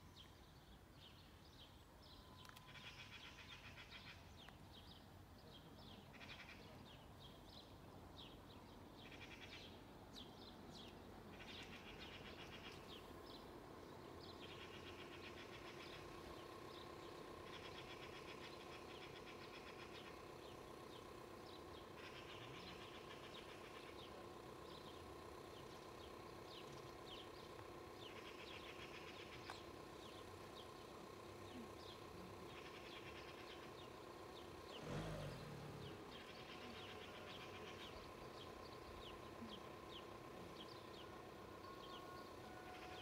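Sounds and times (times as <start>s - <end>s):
faint birds chirping: 0.0s - 43.0s
steady low hum: 0.0s - 43.0s.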